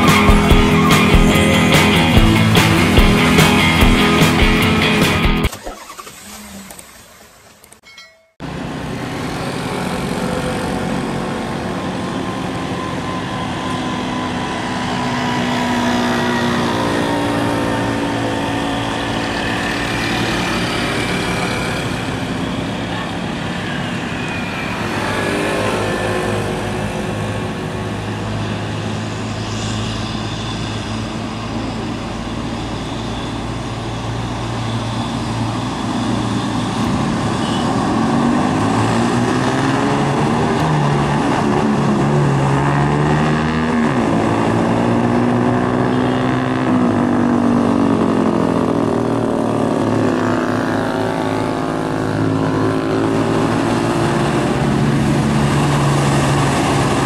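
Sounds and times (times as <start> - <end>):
diesel trucks straining uphill: 0.0 - 57.0.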